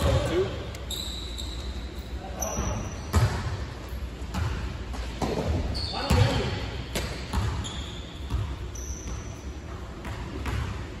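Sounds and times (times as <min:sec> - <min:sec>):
sneaker squeaks: 0:00.0 - 0:10.9.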